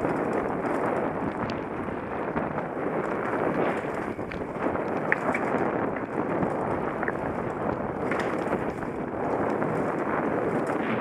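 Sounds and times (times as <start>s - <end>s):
bike clicks and rattles: 0.0s - 11.0s
bike tyre noise: 0.0s - 11.0s
wind buffeting microphone: 0.0s - 11.0s.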